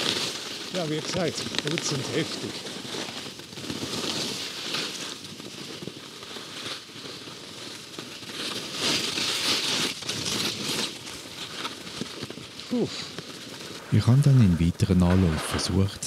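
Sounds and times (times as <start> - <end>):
skis scraping over snow: 0.0 - 16.0.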